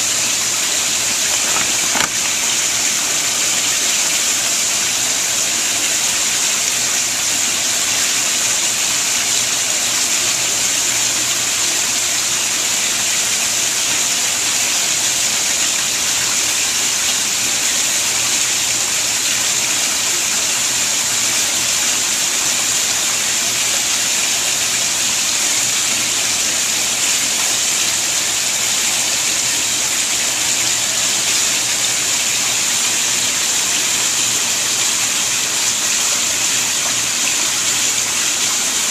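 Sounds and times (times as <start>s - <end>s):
water pouring into a pond: 0.0s - 38.9s.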